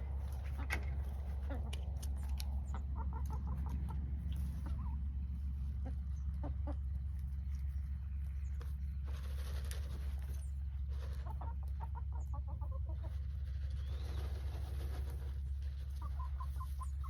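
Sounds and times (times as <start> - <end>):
hens clucking: 0.0 - 17.0
steady low rumble: 0.0 - 17.0.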